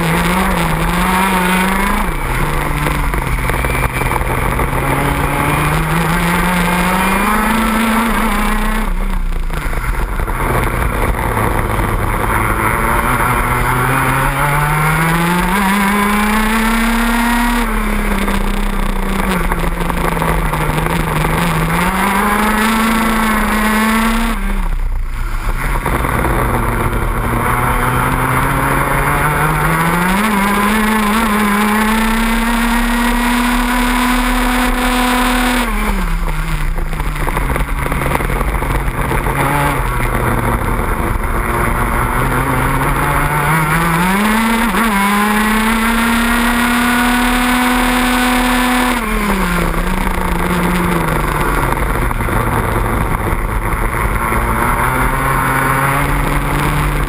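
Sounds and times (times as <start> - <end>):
two-stroke kart engine revving: 0.0 - 57.0.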